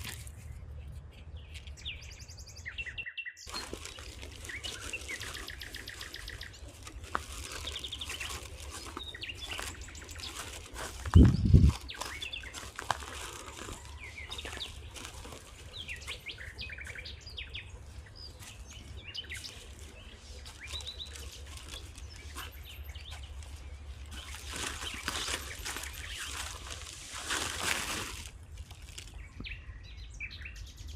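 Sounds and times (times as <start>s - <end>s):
rustling: 0.0s - 0.6s, 3.5s - 17.0s, 17.8s - 29.2s
small birds chirping: 0.0s - 30.9s.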